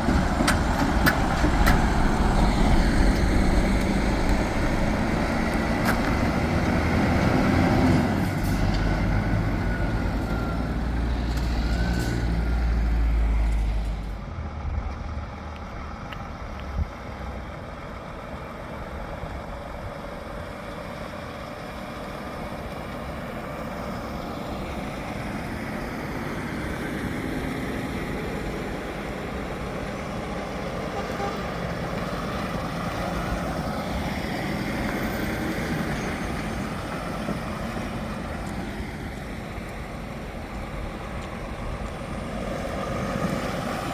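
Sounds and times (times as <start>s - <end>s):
road background noise: 0.0s - 43.9s
truck diesel engine driving past: 0.0s - 43.9s.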